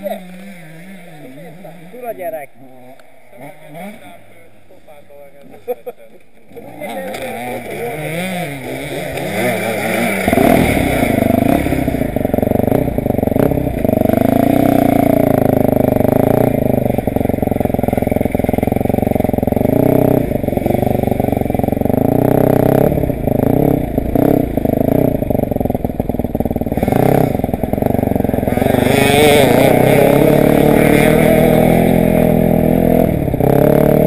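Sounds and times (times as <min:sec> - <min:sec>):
dirt bike engine revving: 0:00.0 - 0:04.6, 0:06.4 - 0:34.0.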